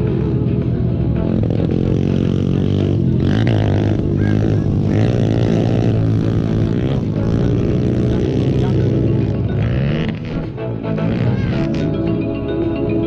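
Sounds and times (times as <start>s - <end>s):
mini bike engine revving: 1.2s - 12.1s.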